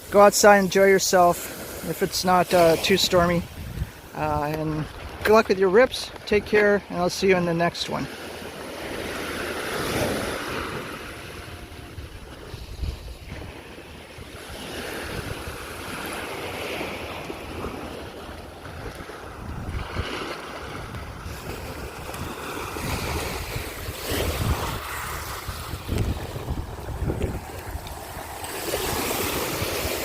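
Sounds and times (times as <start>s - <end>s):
wind gusting on microphone: 0.0s - 6.8s, 8.5s - 30.0s
ocean waves washing ashore: 0.0s - 30.0s.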